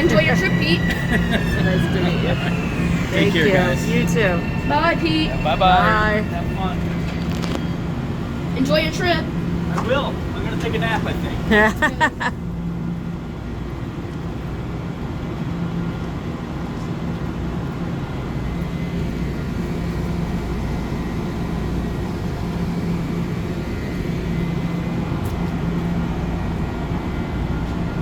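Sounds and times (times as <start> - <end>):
standing train rumble and hum: 0.0 - 28.0.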